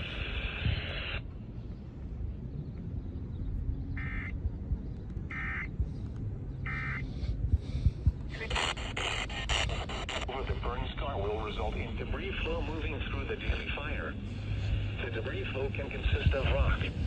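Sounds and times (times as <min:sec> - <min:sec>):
low radio noise: 0:00.0 - 0:17.0.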